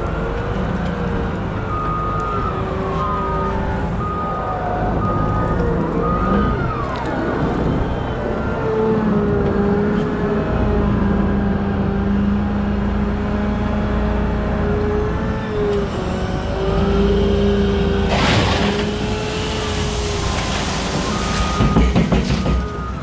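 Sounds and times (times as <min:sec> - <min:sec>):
diesel machine whining: 0:00.0 - 0:23.0.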